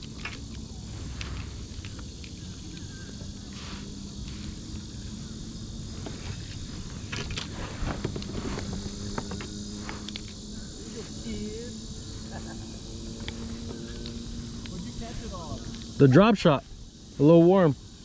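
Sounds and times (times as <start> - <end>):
high-pitched insect chirring: 0.0 - 18.0.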